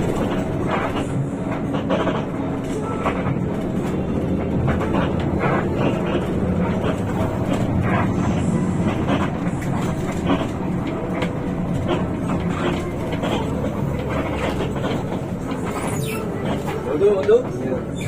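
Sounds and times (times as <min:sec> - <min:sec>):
bus diesel engine drone: 0:00.0 - 0:18.0
road and body rumble: 0:00.0 - 0:18.0.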